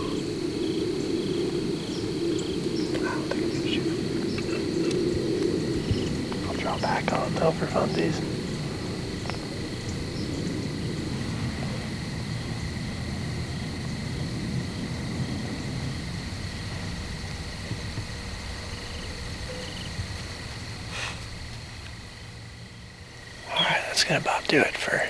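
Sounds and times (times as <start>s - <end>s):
low rumble: 0.0s - 23.4s
crickets chirping: 0.0s - 25.0s.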